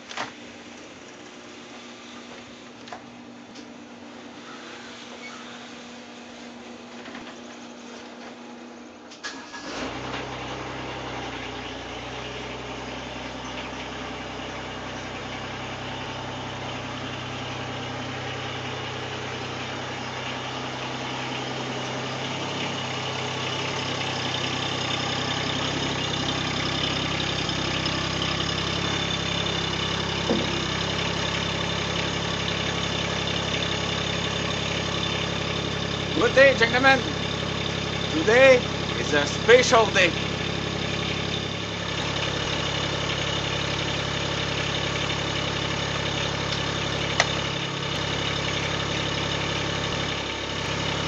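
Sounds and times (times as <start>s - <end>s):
tractor diesel engine idling: 9.2s - 51.0s.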